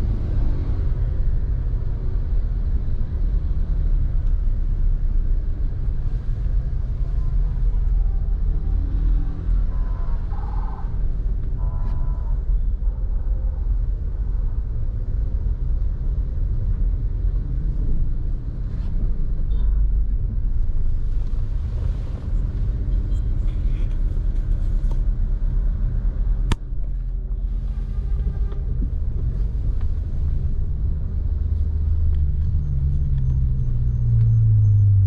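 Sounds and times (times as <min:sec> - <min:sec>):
engine and tyre rumble: 0:00.0 - 0:35.0.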